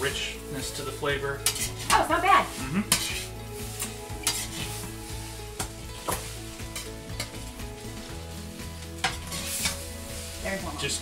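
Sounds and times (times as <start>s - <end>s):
fried rice sizzling in a wok: 0.0s - 11.0s
metal spoon scraping a pan: 1.4s - 10.4s.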